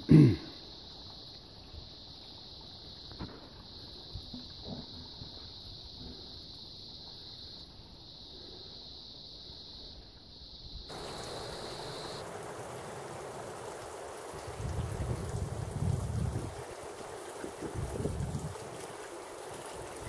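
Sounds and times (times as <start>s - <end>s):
water running and splashing: 0.0s - 20.0s.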